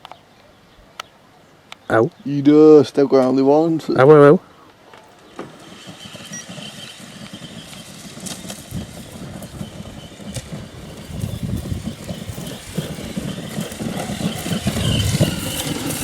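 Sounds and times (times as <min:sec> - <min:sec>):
rc truck crackly rumble: 0:02.8 - 0:16.0.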